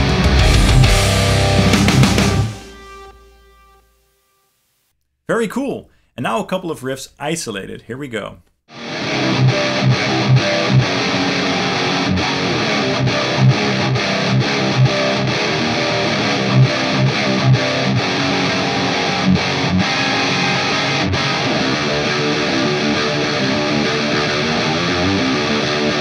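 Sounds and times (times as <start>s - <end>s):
distorted electric guitar riffs: 0.0s - 4.2s, 8.7s - 26.0s.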